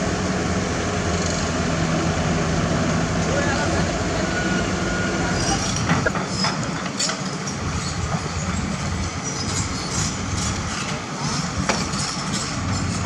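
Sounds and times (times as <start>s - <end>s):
excavator diesel engine: 0.0s - 13.0s.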